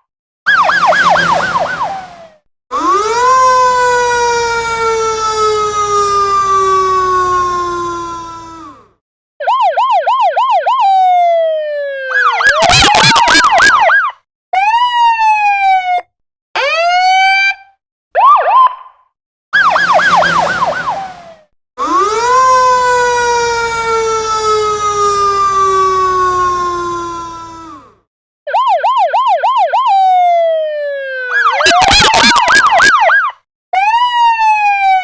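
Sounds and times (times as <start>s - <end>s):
emergency siren: 0.0s - 19.0s, 19.6s - 35.0s.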